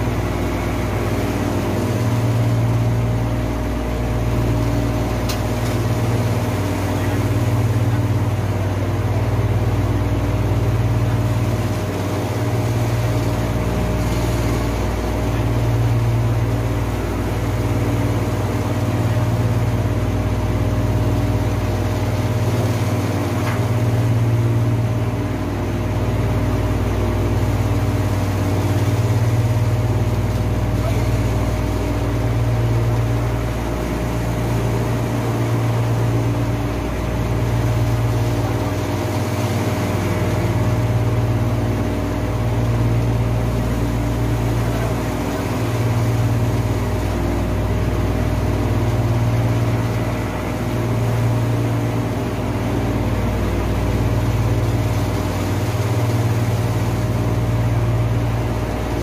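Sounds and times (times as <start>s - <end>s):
heavy machinery humming: 0.0s - 59.0s.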